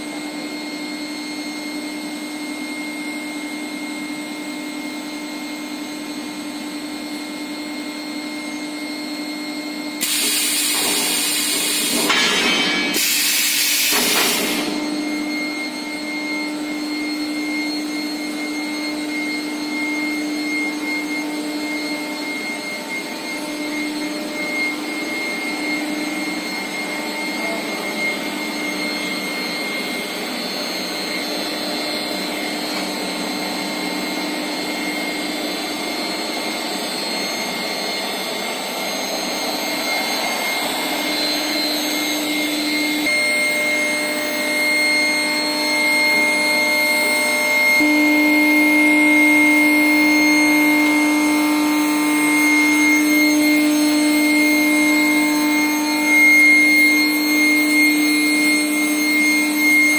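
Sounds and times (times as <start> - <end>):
machine high whine: 0.0 - 59.9.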